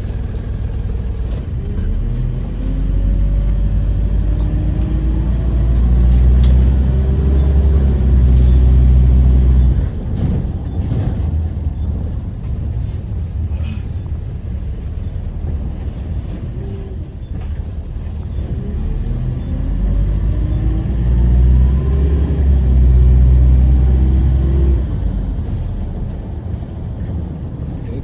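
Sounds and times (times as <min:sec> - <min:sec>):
bus engine rumbling: 0:00.0 - 0:28.0
high engine whine: 0:00.0 - 0:28.0.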